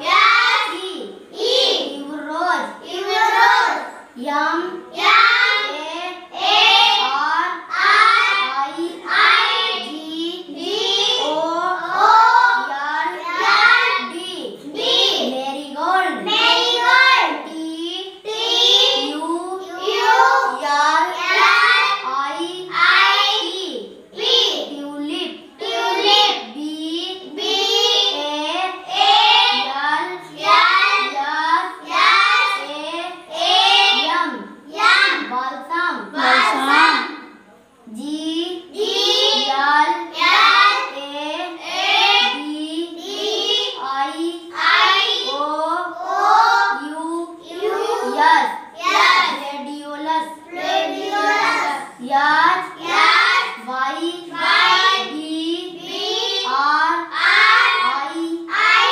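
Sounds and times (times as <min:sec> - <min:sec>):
boy chanting sing-song words: 0:00.0 - 0:37.3, 0:37.9 - 0:58.9.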